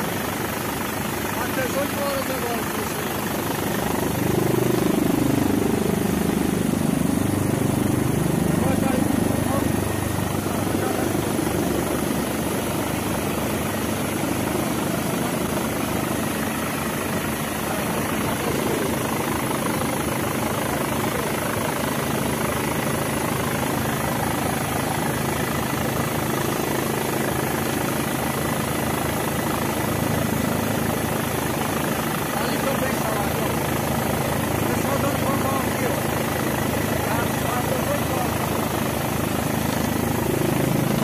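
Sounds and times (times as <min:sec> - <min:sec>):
helicopter cabin noise: 0:00.0 - 0:41.0.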